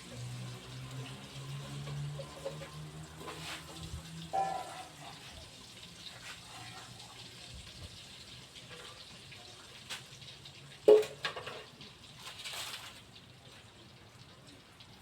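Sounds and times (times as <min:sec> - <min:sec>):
food sizzling in oil: 0:00.1 - 0:15.0.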